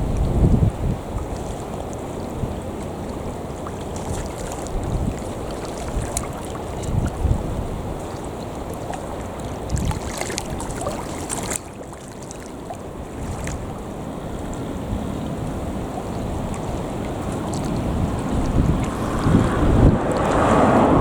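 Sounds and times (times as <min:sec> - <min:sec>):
wind buffeting microphone: 0:00.0 - 0:11.7, 0:12.6 - 0:21.0
sea waves: 0:00.0 - 0:21.0.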